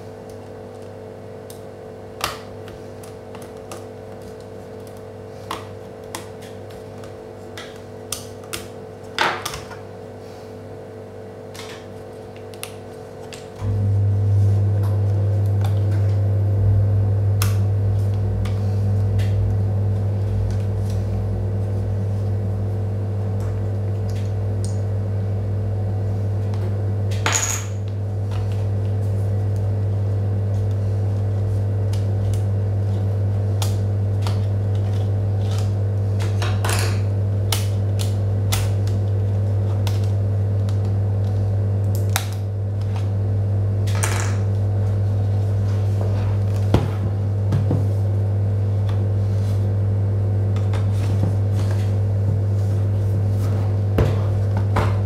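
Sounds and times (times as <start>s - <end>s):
loud steady low hum: 0.0s - 55.0s.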